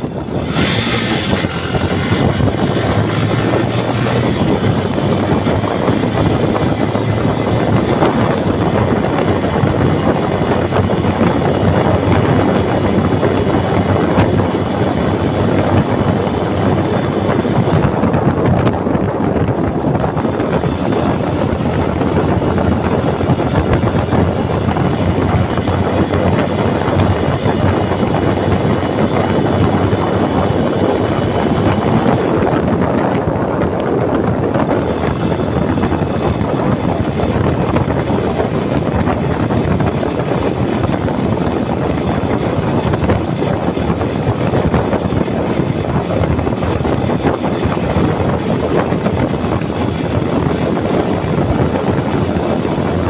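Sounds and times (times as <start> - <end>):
vehicle engine and road noise: 0.0 - 53.0.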